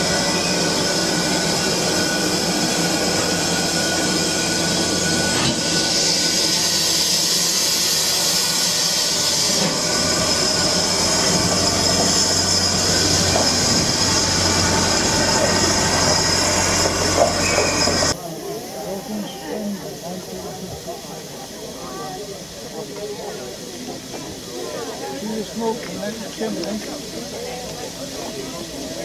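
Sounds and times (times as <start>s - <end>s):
steam locomotive hissing steam: 0.0s - 29.0s.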